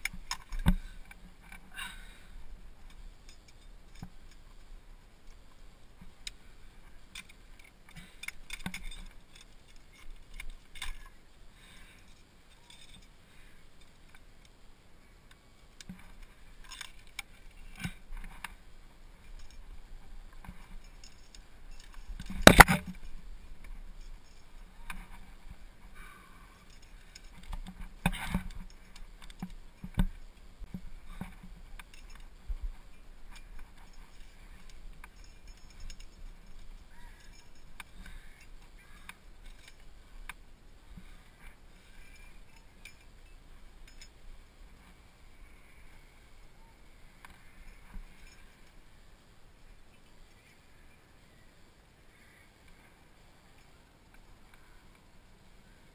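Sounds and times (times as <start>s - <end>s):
climbing gear clinking: 0.0s - 51.0s.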